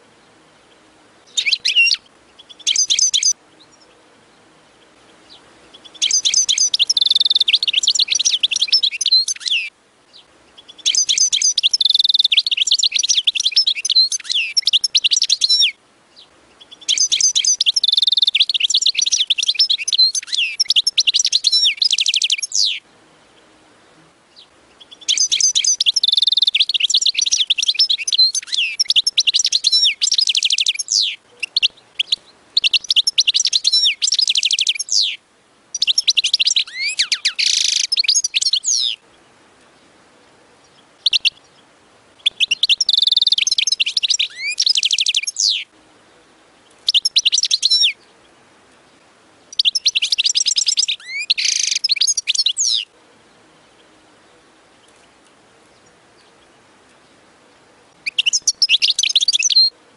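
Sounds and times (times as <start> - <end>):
goldfinch twittering song: 0.2 - 39.9, 40.6 - 45.7, 46.6 - 57.4, 58.0 - 59.7.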